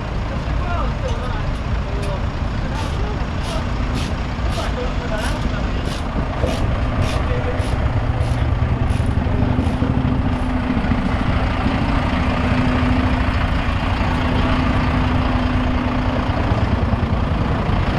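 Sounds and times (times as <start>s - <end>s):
constant hum: 0.0s - 17.4s
diesel engine running: 0.0s - 17.9s.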